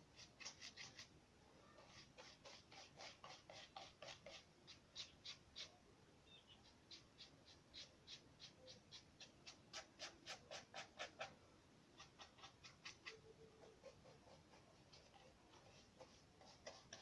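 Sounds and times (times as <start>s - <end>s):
paintbrush scratching on paper: 0.0s - 1.1s, 1.7s - 5.8s, 6.6s - 11.4s, 12.0s - 17.0s.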